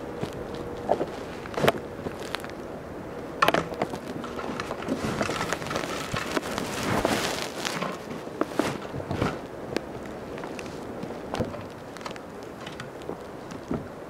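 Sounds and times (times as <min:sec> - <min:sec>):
snow crunching and crackling: 0:00.0 - 0:14.0.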